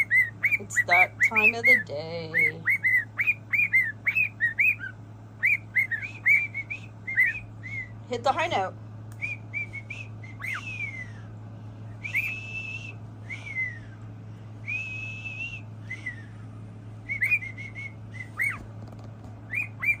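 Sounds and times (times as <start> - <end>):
parrot whistling: 0.0 - 8.0, 9.2 - 11.3, 11.9 - 14.0, 14.6 - 18.6, 19.5 - 20.0.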